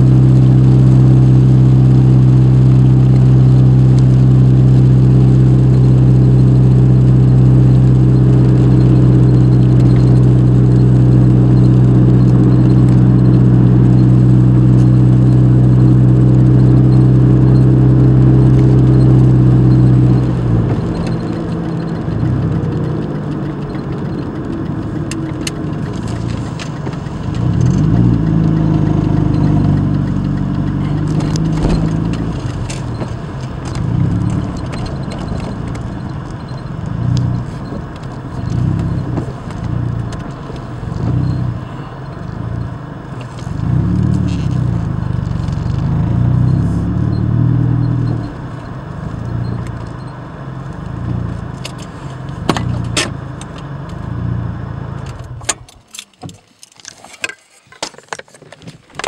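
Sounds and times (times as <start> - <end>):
car engine and road noise: 0.0 - 59.0
small clicks and rattles: 5.8 - 46.6, 47.4 - 54.2, 55.0 - 59.0.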